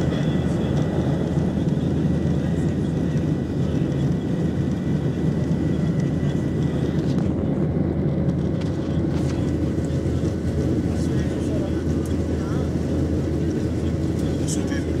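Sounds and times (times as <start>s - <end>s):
jet engine rumble in cabin: 0.0s - 15.0s.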